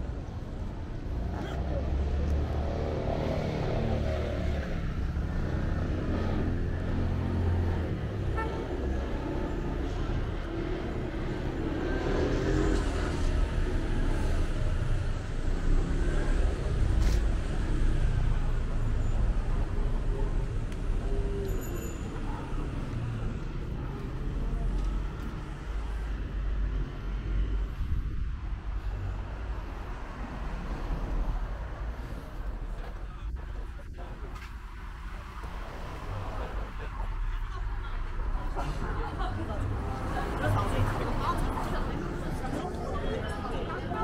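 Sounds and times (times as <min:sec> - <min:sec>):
motor traffic: 0:00.0 - 0:44.0
voices of people passing: 0:00.0 - 0:44.0.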